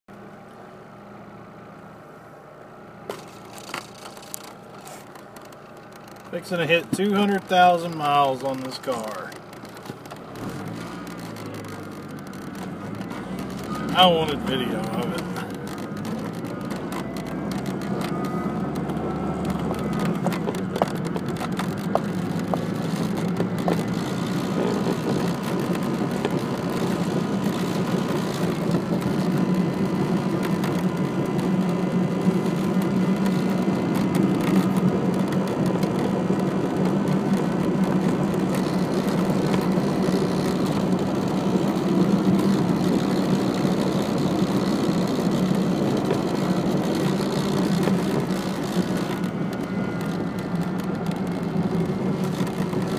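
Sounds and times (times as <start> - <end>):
car engine and road drone: 0.1 - 52.9.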